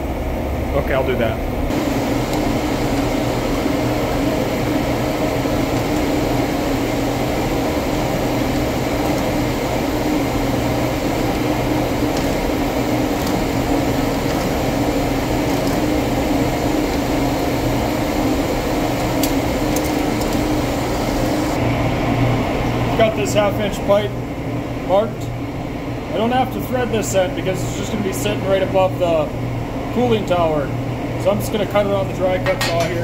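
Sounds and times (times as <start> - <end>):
boiler room machinery drone: 0.0 - 33.0.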